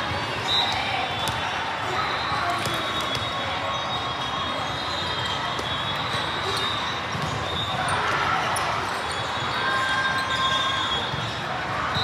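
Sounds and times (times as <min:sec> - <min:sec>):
voices echoing in a hall: 0:00.0 - 0:12.0.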